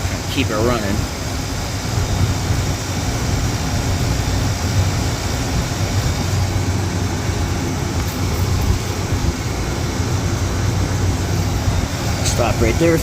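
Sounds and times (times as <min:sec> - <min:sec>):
compressor hum: 0:00.0 - 0:13.0
condenser fan rushing: 0:00.0 - 0:13.0.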